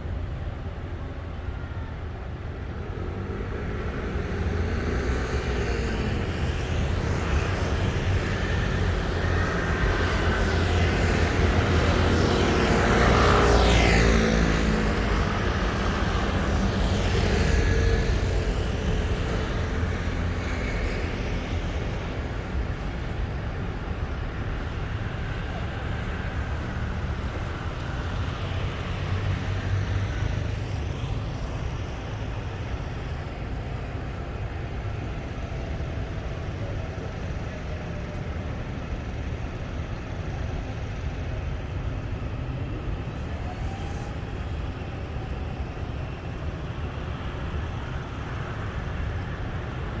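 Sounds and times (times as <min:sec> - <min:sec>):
faint engine whine: 0:00.0 - 0:50.0.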